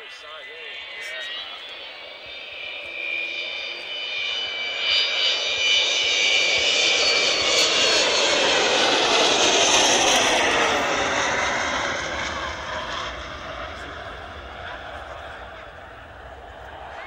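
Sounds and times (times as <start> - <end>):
high whistling whine: 0.0 - 17.0
jet bomber flypast: 0.0 - 17.0.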